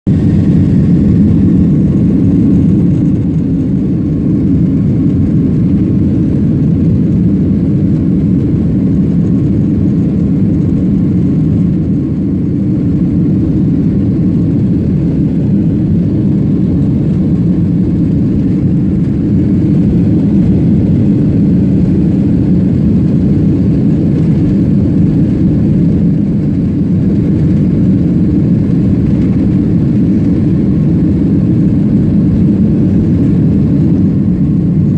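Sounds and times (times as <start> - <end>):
jet airliner cabin rumble: 0.1 - 34.9.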